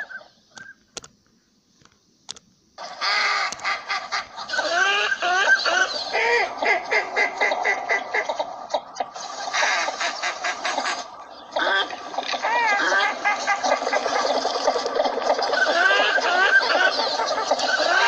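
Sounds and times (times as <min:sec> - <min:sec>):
ducks calling: 0:02.8 - 0:18.0.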